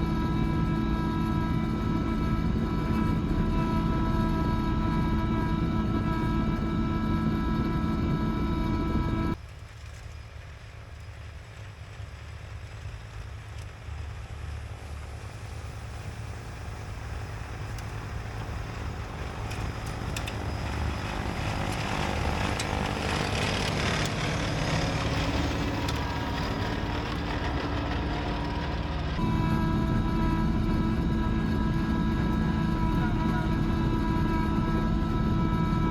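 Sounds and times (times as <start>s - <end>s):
snowblower rushing noise: 0.0s - 9.4s, 11.2s - 35.9s
tractor engine drone: 0.0s - 35.9s.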